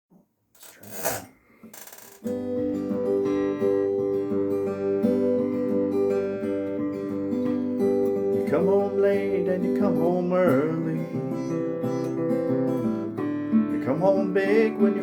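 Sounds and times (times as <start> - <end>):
acoustic guitar chords: 2.2 - 15.0.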